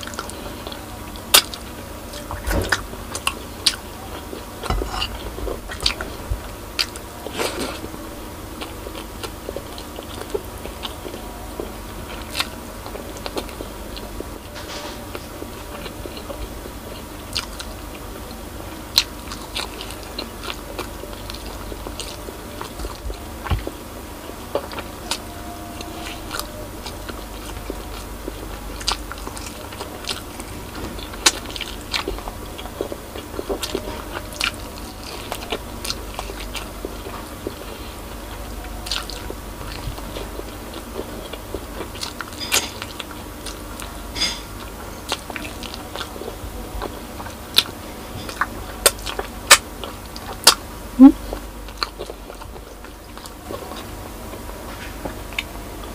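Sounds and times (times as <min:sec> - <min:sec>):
person chewing meat off bone: 0:02.4 - 0:08.0, 0:08.6 - 0:55.9.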